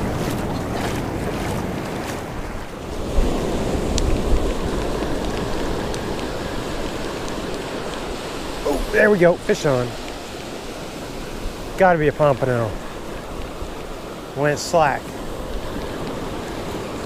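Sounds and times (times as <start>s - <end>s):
wind buffeting microphone: 0.0s - 14.4s
ocean surf washing ashore: 0.0s - 17.0s.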